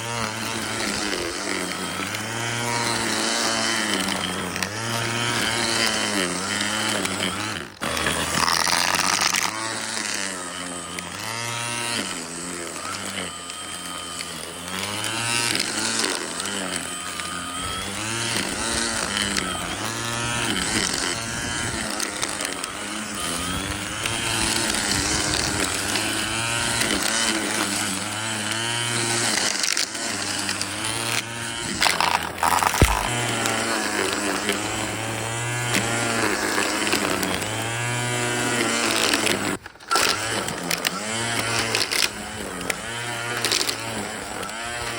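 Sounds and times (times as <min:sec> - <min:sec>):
string trimmer cutting grass: 0:00.0 - 0:44.9.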